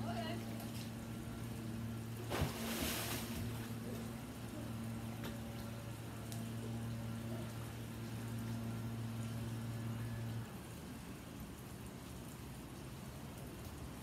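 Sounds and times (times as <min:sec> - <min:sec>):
low hum: 0:00.0 - 0:11.7.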